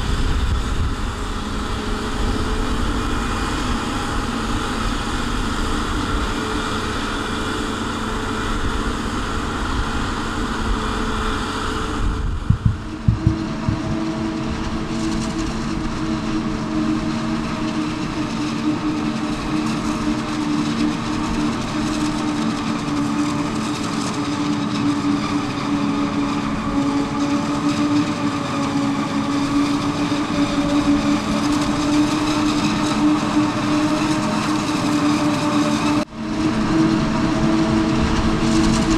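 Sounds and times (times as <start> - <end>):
heavy engine drone: 0.0 - 38.9
multi-tone machine whine: 0.0 - 38.9.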